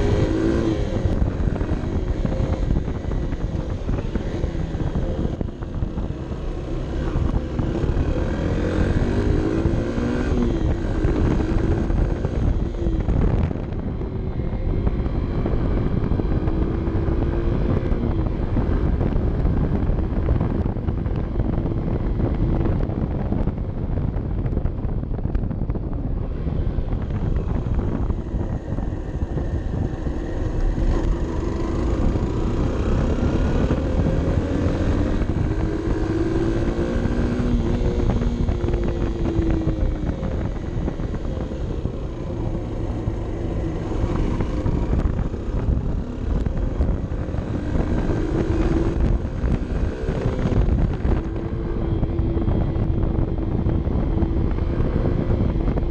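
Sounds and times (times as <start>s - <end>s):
motorcycle engine revving: 0.0s - 55.9s
wind rushing over microphone: 0.0s - 55.9s.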